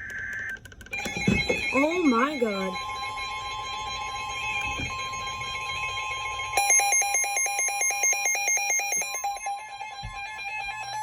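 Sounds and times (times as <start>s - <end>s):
fast warbling alarm: 0.0s - 11.0s.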